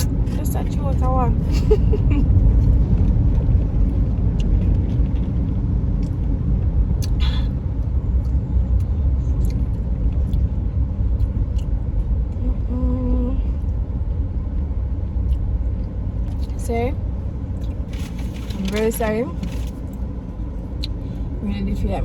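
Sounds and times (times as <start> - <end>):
car cabin engine and road rumble: 0.0 - 22.0.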